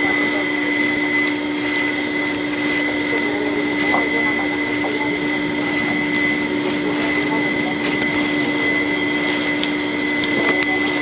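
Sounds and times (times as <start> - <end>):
background hum with whine: 0.0 - 11.0.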